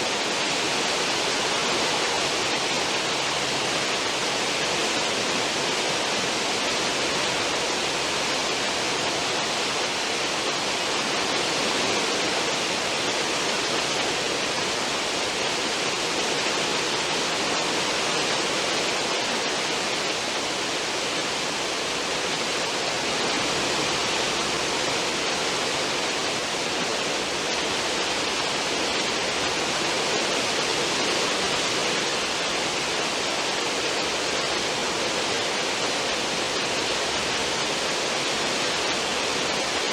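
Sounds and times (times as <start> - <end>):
ship wake water rushing: 0.0 - 39.9.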